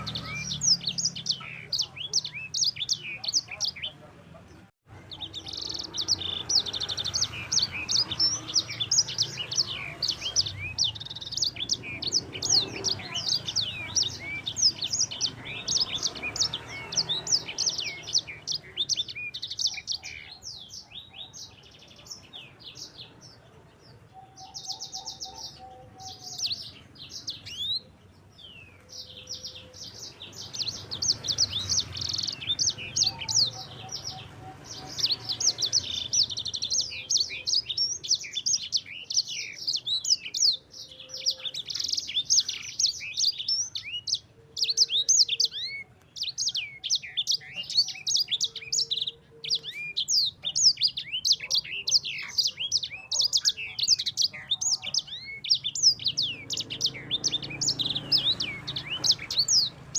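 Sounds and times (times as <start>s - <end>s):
songbird twittering: 0.0s - 59.9s.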